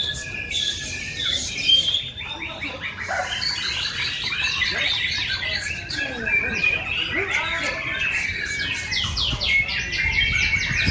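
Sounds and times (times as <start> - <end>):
songbirds singing: 0.0 - 10.9.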